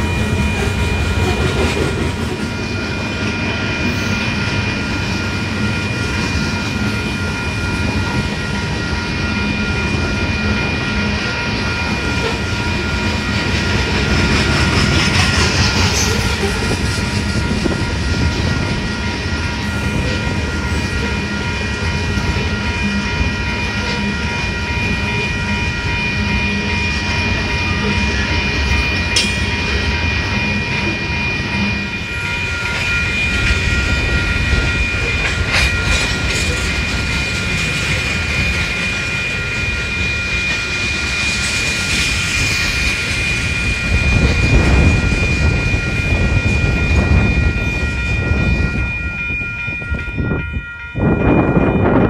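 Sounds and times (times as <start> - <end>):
high ringing: 0.0 - 52.0
train wheels rumbling on rails: 0.0 - 52.0.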